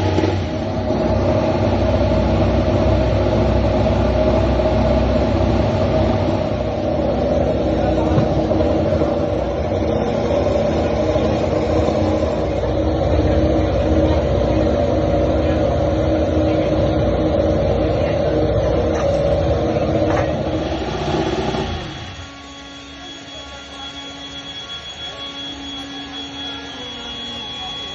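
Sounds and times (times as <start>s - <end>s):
motorcycle engine running loud: 0.0s - 24.1s.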